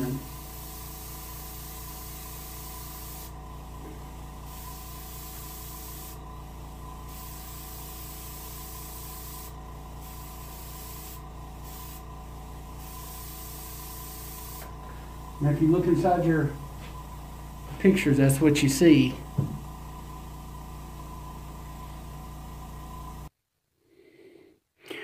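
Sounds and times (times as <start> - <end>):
airbrush air hiss: 0.0 - 23.2
steady low hum: 0.0 - 23.3.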